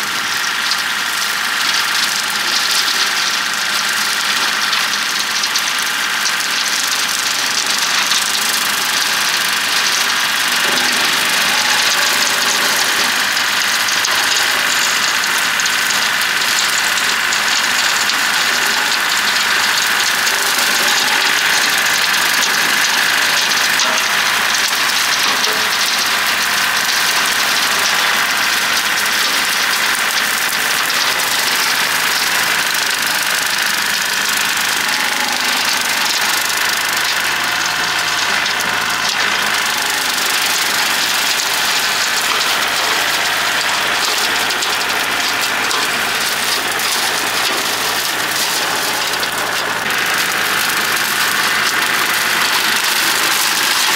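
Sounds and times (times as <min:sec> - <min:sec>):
diesel tractor engine running: 0:00.0 - 0:53.9.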